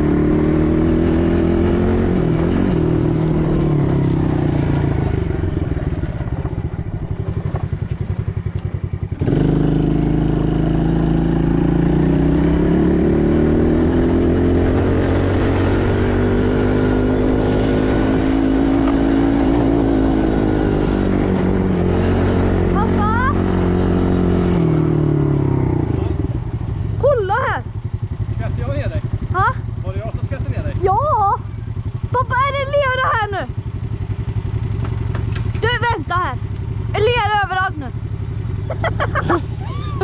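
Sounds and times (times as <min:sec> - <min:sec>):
atv engine running: 0:00.0 - 0:40.0.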